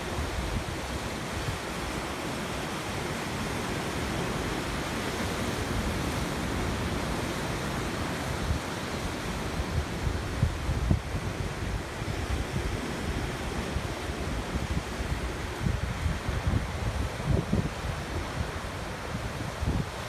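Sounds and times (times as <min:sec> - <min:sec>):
ocean surf breaking on rocks: 0:00.0 - 0:20.0
wind rumbling on microphone: 0:00.0 - 0:20.0.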